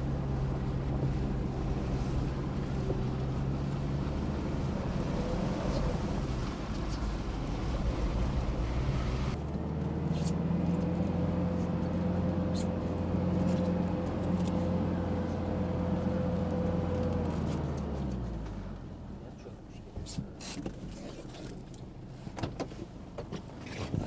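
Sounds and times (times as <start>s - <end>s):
car engine drone with whine: 0.0s - 24.0s.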